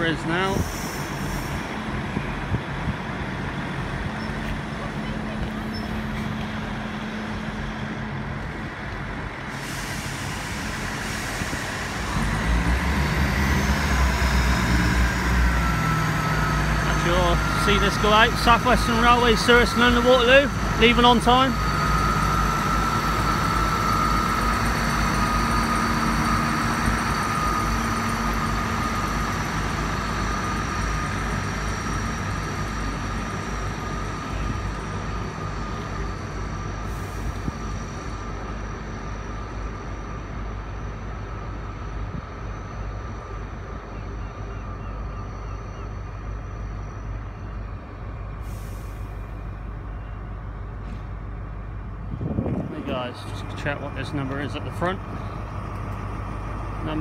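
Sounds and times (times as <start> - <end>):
diesel train pulling away: 0.0 - 57.0
low diesel rumble: 0.0 - 57.0
transmission whine: 10.1 - 57.0.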